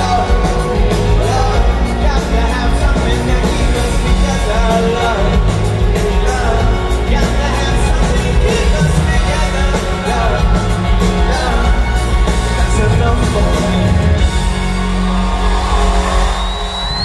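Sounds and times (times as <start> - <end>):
live pop-rock band: 0.0 - 17.0.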